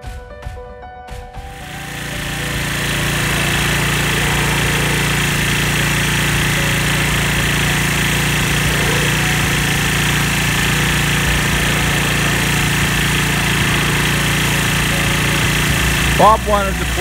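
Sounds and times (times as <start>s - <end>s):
pressure washer engine running: 1.4s - 17.0s
high-pressure water jet hissing: 1.5s - 17.0s.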